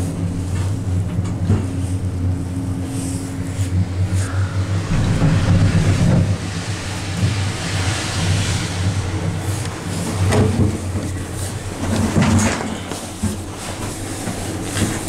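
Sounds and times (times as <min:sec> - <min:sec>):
gondola cabin humming: 0:00.0 - 0:15.0
rumbling: 0:00.0 - 0:15.0.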